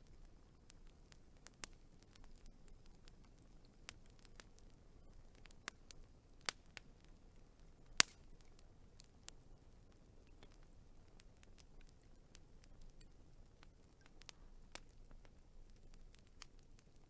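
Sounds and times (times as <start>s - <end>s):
faint low hiss: 0.0s - 17.0s
wood fire popping and snapping: 0.0s - 17.0s.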